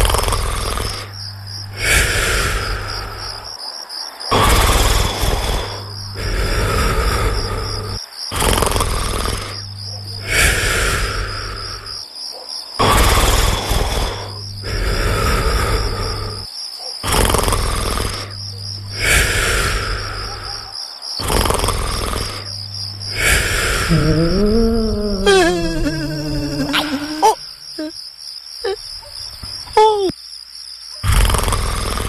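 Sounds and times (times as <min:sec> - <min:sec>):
person snoring: 0:00.0 - 0:03.6, 0:04.3 - 0:12.0, 0:12.8 - 0:27.9, 0:31.0 - 0:32.0
crickets chirping: 0:00.0 - 0:32.0.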